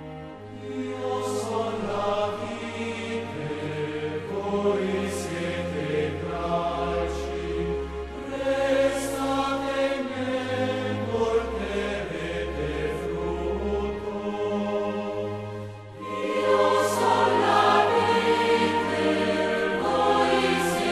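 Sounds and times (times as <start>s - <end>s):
choir singing a slow chant: 0.4s - 20.9s.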